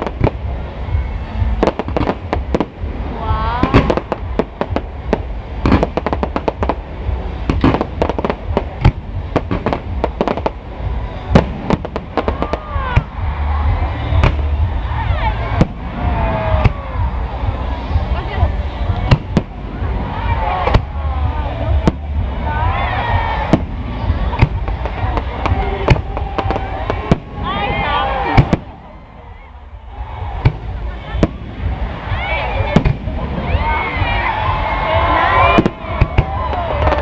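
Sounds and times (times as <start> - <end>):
fireworks bangs and crackles: 0.0 - 37.0
low rumble: 0.0 - 37.0.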